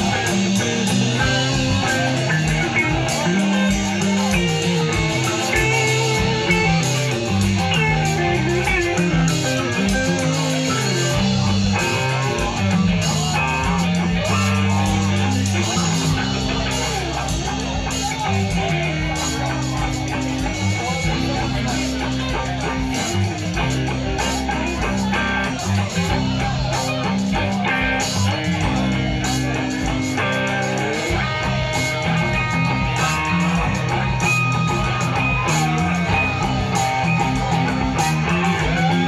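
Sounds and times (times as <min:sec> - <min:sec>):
bass guitar line: 0:00.0 - 0:39.0
electric guitars: 0:00.0 - 0:39.0.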